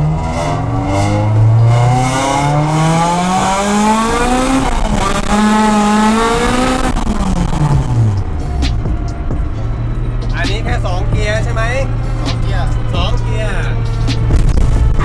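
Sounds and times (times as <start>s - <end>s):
car engine revving hard: 0.0s - 15.0s
gear change: 0.0s - 15.0s.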